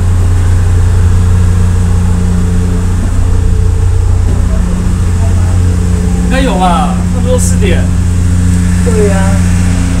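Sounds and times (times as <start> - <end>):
ship engine low drone: 0.0 - 10.0.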